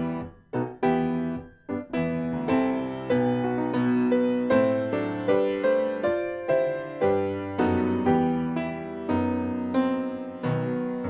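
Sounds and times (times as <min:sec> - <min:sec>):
piano playing slow chords: 0:00.0 - 0:11.0.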